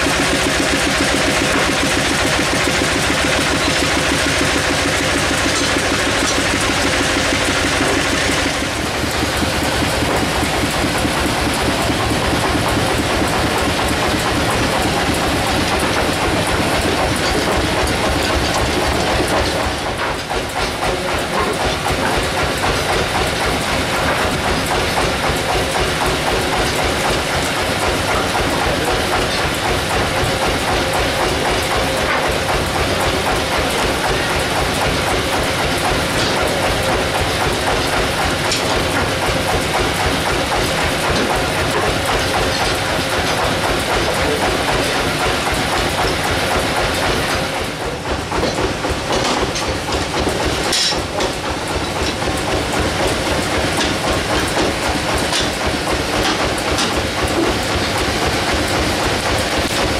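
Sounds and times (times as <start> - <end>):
sawmill machinery clattering: 0.0 - 59.9.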